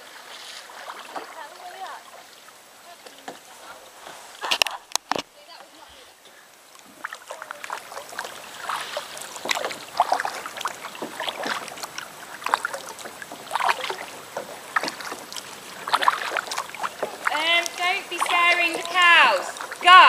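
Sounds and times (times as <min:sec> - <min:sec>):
paddle splashes and drips: 0:00.0 - 0:20.0.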